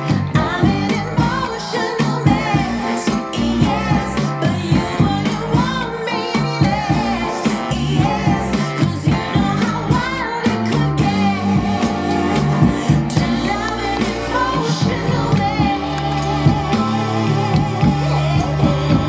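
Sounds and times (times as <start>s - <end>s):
song with singer and bass: 0.0s - 19.0s.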